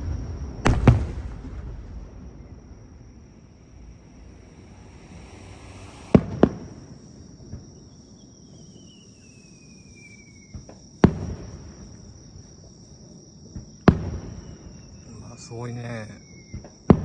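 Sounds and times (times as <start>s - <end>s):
falling firework whistle: 0.0s - 12.0s, 13.8s - 17.0s
fireworks bangs: 0.0s - 12.3s, 13.4s - 17.0s
insect trill: 0.0s - 17.0s.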